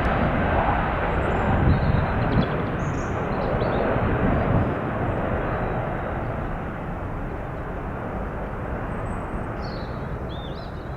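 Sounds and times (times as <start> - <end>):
jet engines rumbling: 0.0 - 10.9.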